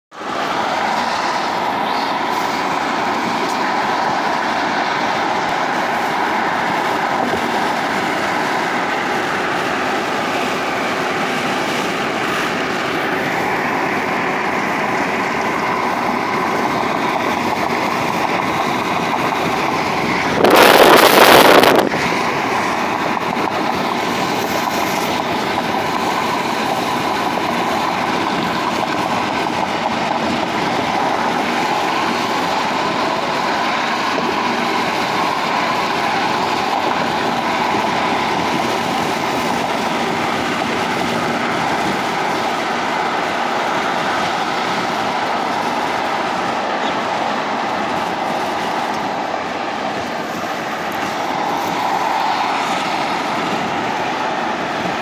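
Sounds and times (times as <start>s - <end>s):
car road and tyre noise: 0.1s - 55.0s
loud rush of noise: 0.1s - 55.0s.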